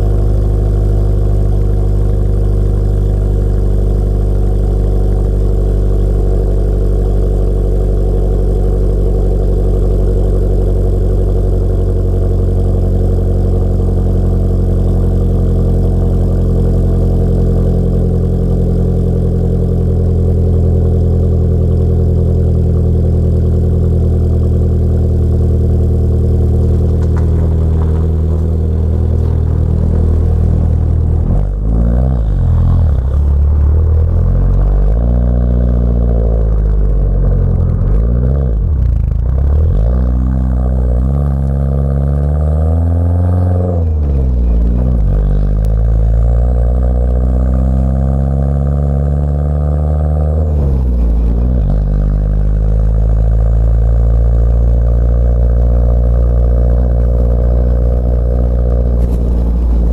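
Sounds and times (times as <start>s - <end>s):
car engine idling: 0.0s - 59.9s
car pulling away: 0.0s - 59.9s.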